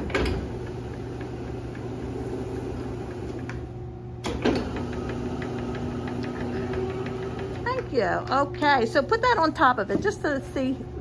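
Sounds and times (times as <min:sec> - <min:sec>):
dough sheeter motor humming: 0:00.0 - 0:11.0.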